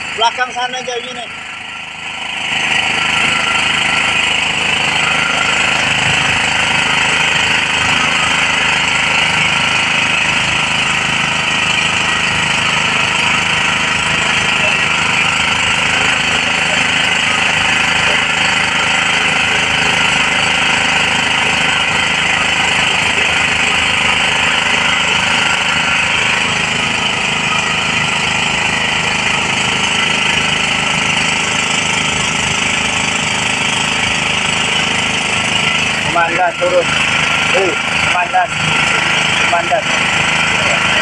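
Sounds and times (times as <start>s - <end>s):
engine running: 0.0s - 41.0s
water spraying from fire hose: 0.0s - 41.0s.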